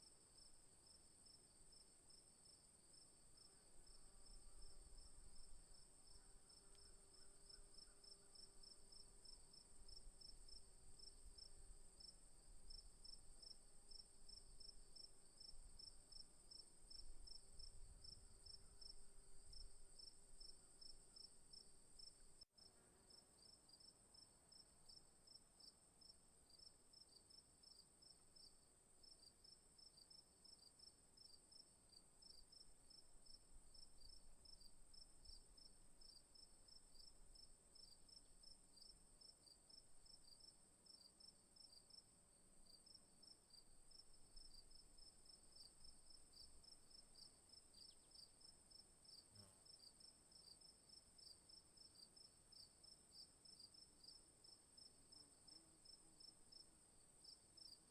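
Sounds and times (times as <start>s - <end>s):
crickets chirping: 0.1s - 22.5s, 24.5s - 57.9s.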